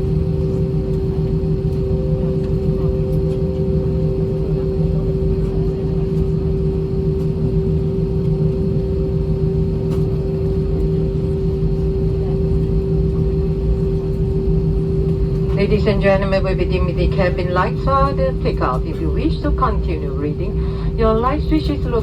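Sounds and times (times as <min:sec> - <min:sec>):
airplane engines idling rumble: 0:00.0 - 0:22.0
steady low hum: 0:00.0 - 0:22.0.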